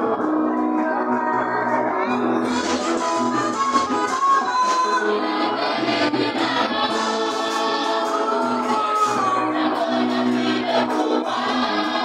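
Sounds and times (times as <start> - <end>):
amplified instrumental backing: 0.0 - 12.0
choir singing gospel: 0.0 - 12.0.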